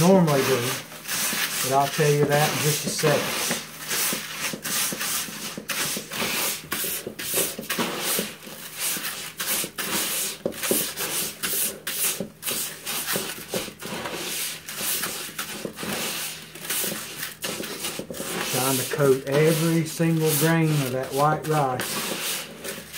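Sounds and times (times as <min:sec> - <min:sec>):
hand scraping plastic bucket: 0:00.0 - 0:22.9
wet rice mixture swishing: 0:00.0 - 0:22.9.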